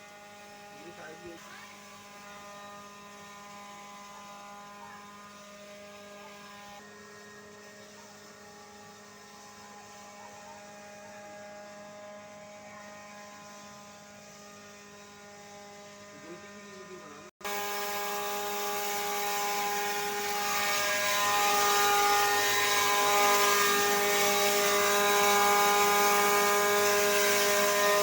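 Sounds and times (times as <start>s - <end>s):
electric flour mill humming: 0.0s - 28.0s.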